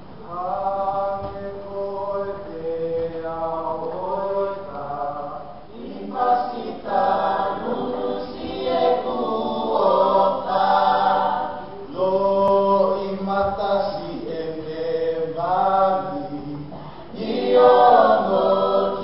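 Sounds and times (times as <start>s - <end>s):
choir singing: 0.3s - 19.0s.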